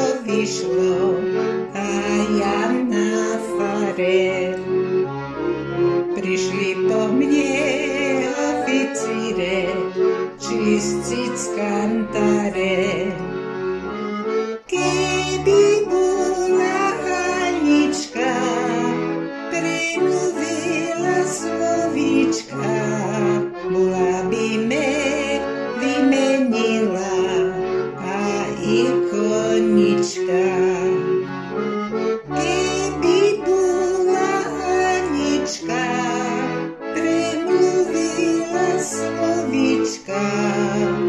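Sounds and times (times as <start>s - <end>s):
accordion folk tune: 0.0s - 41.0s.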